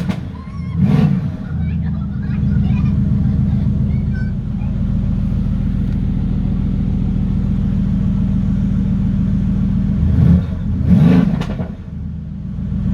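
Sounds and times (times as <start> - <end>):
car engine idling with deep rumble: 0.0 - 12.9
engine revving: 0.0 - 12.9.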